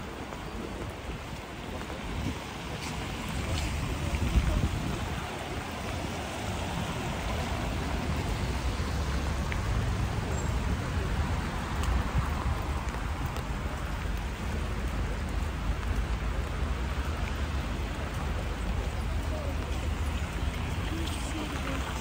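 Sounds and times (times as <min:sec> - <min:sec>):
rain hissing on pavement: 0:00.0 - 0:22.0
raindrops ticking: 0:00.0 - 0:22.0.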